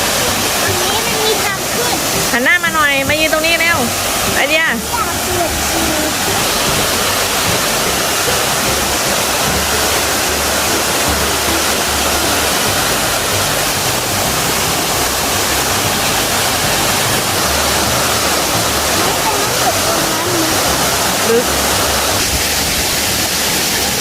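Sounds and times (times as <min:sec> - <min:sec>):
waterfall rushing into a pool: 0:00.0 - 0:24.0.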